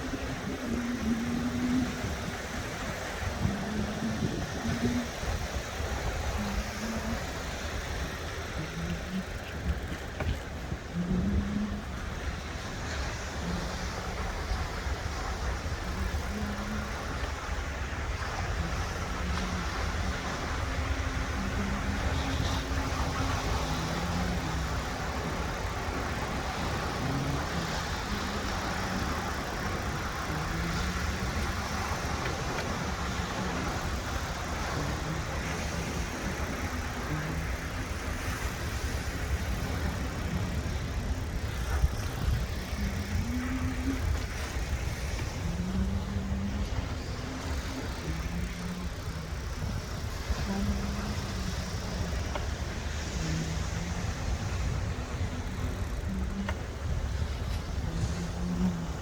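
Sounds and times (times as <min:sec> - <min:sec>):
sea surf: 0:00.0 - 0:59.0
wind at the shore: 0:00.0 - 0:59.0.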